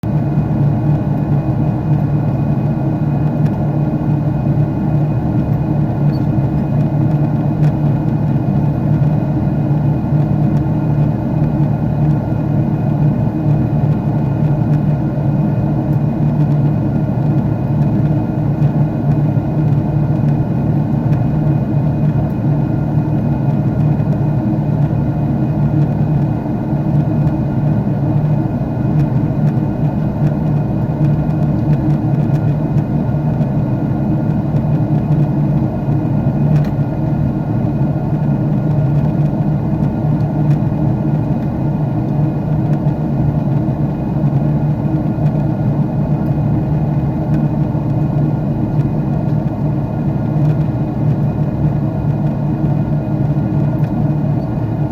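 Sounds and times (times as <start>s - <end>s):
constant low hum: 0.0s - 54.9s
jet engines droning in cabin: 0.0s - 54.9s.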